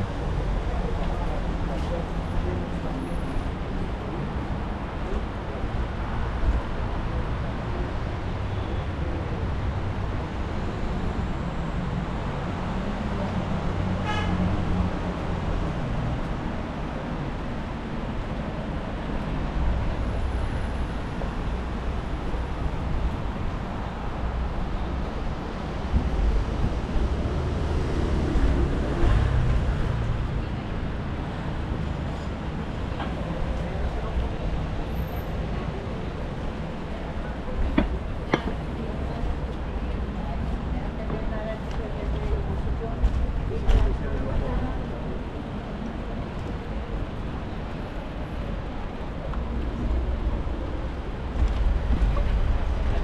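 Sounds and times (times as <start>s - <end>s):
rumble of passing cars: 0.0s - 53.0s.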